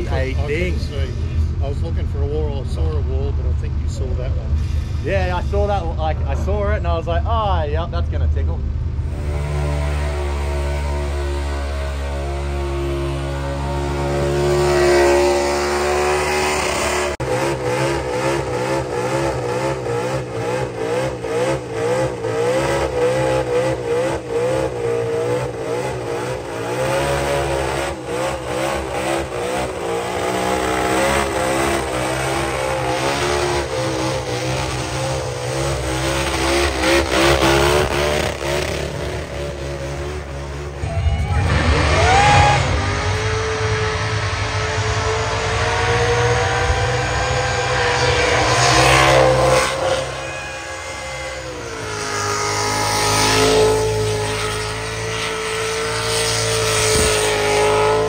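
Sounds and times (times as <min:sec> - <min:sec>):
car engine revving hard: 0:09.0 - 0:58.0.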